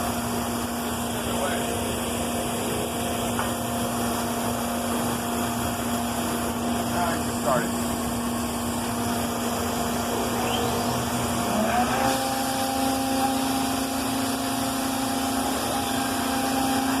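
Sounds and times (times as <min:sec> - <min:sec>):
cnc router humming: 0:00.0 - 0:17.0.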